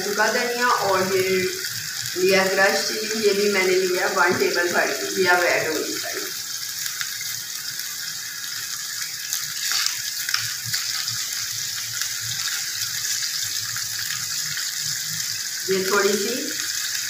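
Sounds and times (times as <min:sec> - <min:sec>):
hot oil sizzling in a pot: 0:00.0 - 0:17.0.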